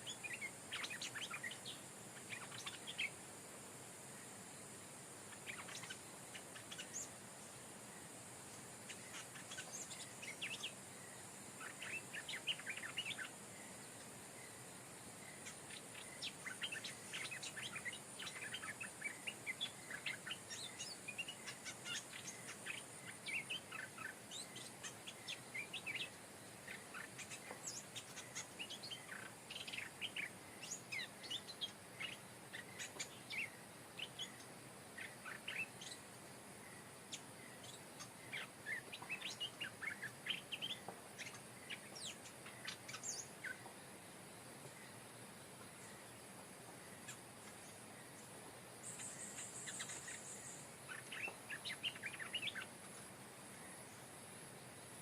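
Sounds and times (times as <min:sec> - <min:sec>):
birds chirping: 0:00.0 - 0:03.2, 0:04.1 - 0:55.0
steady high hiss: 0:00.0 - 0:55.0.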